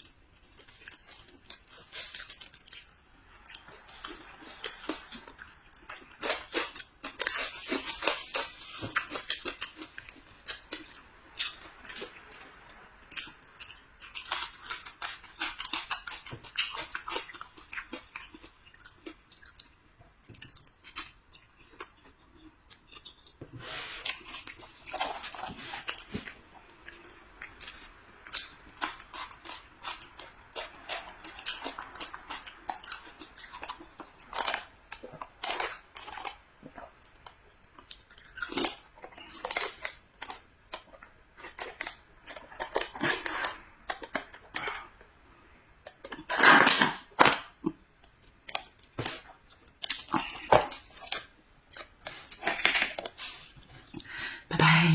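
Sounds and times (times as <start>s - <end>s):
chewing and biting food: 0.0s - 45.2s, 45.8s - 54.2s.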